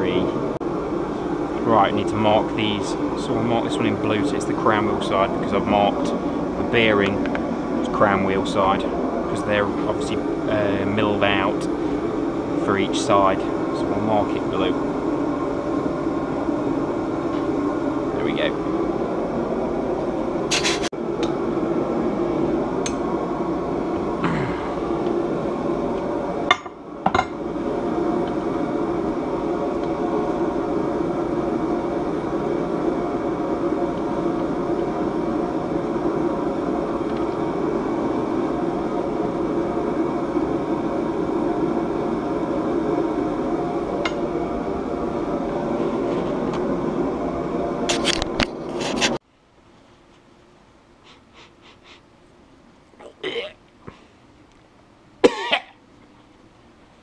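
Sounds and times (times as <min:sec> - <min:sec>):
space heater whirring: 0:00.0 - 0:57.0.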